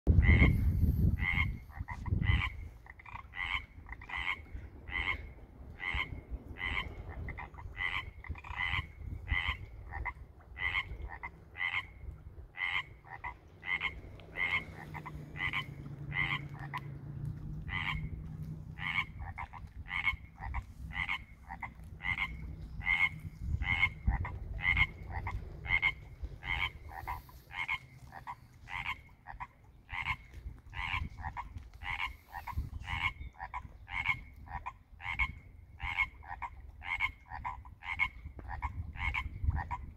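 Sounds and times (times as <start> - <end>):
chorus of frogs croaking: 0.1 - 39.9.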